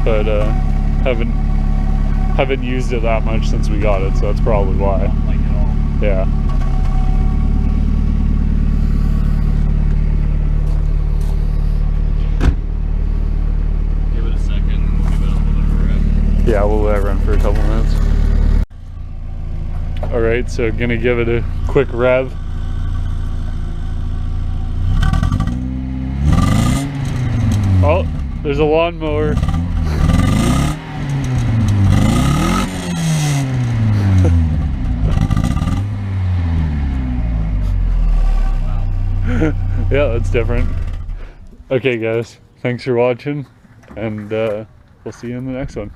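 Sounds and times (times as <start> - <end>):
car engine idling rough: 0.0 - 45.9.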